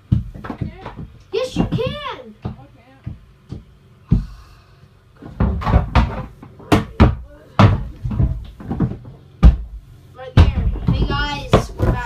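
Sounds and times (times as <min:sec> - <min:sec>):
hollow knocks and thumps: 0:00.0 - 0:04.5, 0:05.1 - 0:12.0.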